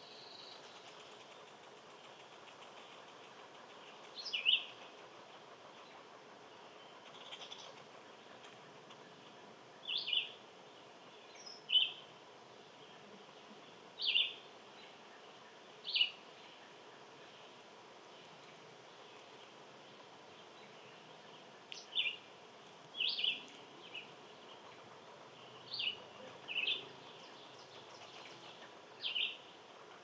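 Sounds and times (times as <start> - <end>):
bird chirping: 0.0 - 29.9
faint outdoor hum: 0.0 - 30.0.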